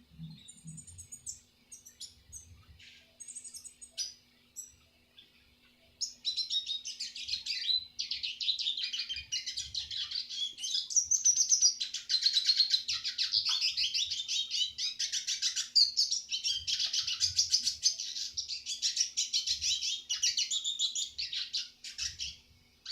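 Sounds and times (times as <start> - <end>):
bird twittering song: 0.0 - 22.9.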